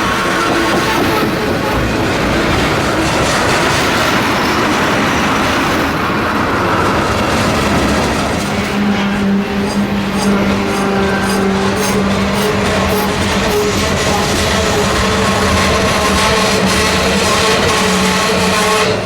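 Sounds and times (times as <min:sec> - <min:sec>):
train wheels rolling on track: 0:00.0 - 0:19.0.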